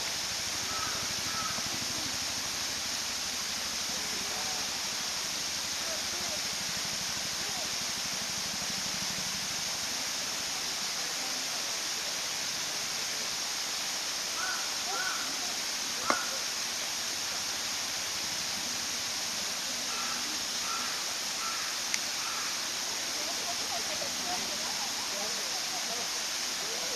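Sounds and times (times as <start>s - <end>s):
running water: 0.0s - 26.9s
faint distant voices: 0.6s - 26.9s.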